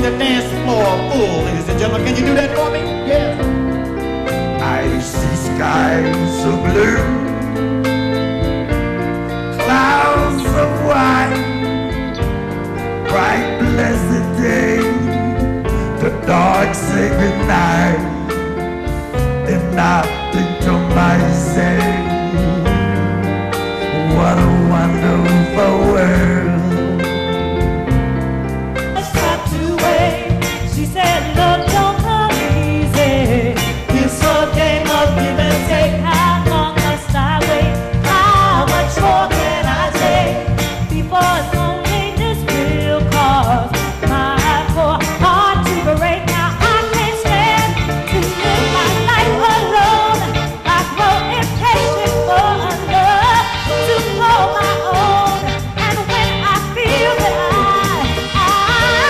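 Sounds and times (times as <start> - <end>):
live band playing: 0.0 - 59.0
person singing: 4.5 - 7.6, 9.6 - 11.7, 13.0 - 18.3, 19.4 - 27.6, 29.0 - 59.0.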